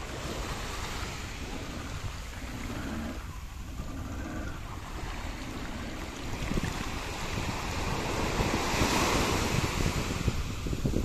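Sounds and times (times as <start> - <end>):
sea waves breaking on shore: 0.0 - 11.0
wind rumbling on microphone: 0.0 - 11.0.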